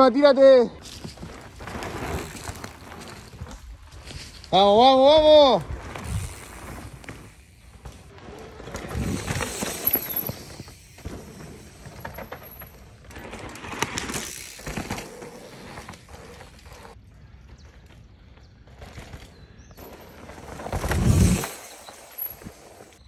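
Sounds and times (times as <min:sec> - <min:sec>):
bike tyres crunching on dirt: 0:00.0 - 0:23.0
bike chain and frame rattling: 0:00.8 - 0:17.0, 0:18.8 - 0:23.0.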